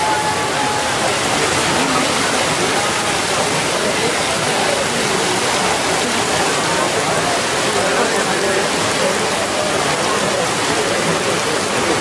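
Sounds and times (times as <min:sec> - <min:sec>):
faint voices: 0:00.0 - 0:12.0
rain falling: 0:00.0 - 0:12.0.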